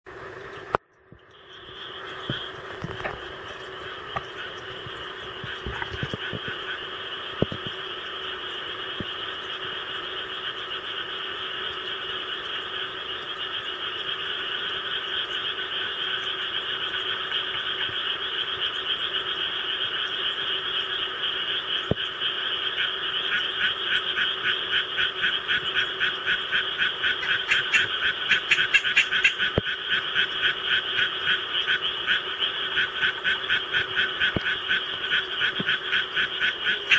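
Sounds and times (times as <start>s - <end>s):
nearby tree frog pulsed calls: 0.6s - 36.9s
tree frog chorus: 1.4s - 36.9s.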